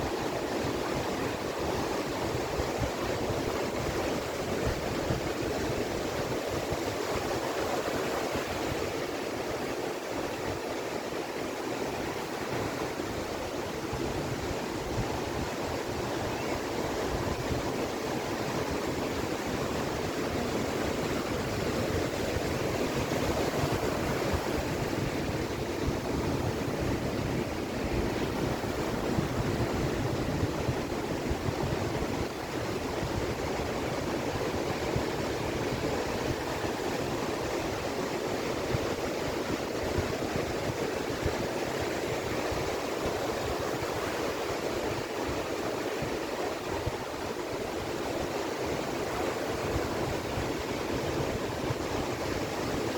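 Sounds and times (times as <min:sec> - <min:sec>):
ocean surf washing onto beach: 0:00.0 - 0:52.9.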